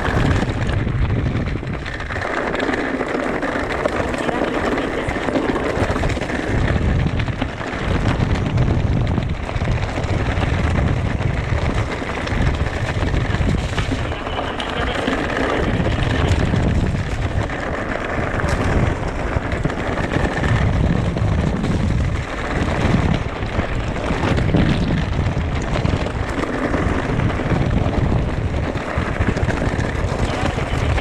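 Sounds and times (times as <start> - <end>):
bike tyres on rough trail: 0.0 - 31.0
wind on microphone: 0.0 - 31.0.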